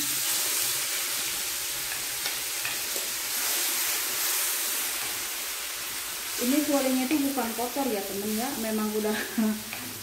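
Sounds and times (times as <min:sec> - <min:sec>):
paste sizzling in a frying pan: 0:00.0 - 0:10.0.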